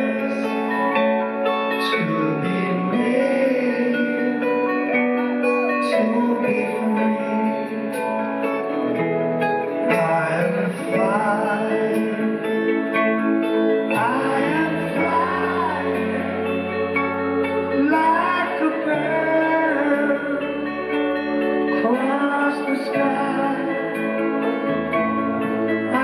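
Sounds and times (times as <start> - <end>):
live band music: 0.0 - 26.0
person singing: 0.0 - 26.0.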